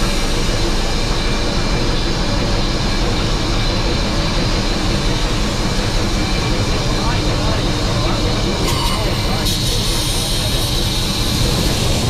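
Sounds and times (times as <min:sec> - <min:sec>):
steam train wheels on rails: 0:00.0 - 0:12.0.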